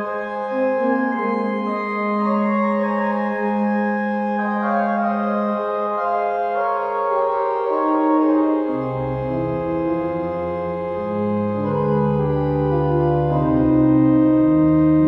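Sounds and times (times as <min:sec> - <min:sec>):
pipe organ chords: 0:00.0 - 0:15.0.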